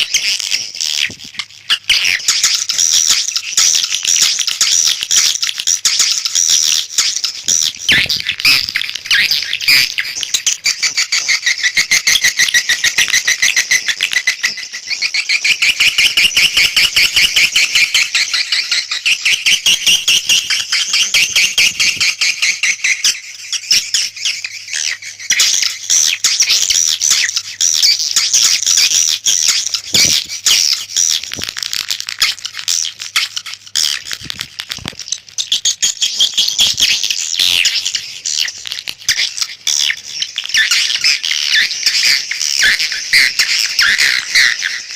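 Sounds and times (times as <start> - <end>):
recorded swiftlet calls: 0.0 - 44.9.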